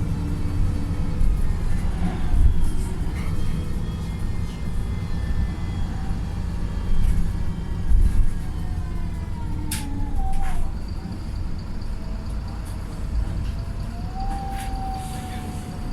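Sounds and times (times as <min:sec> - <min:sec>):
diesel bus engine rumble: 0:00.0 - 0:15.9.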